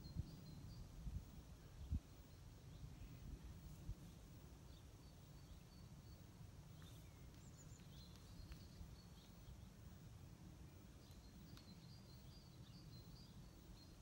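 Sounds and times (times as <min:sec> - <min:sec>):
faint outdoor hum: 0:00.0 - 0:14.0.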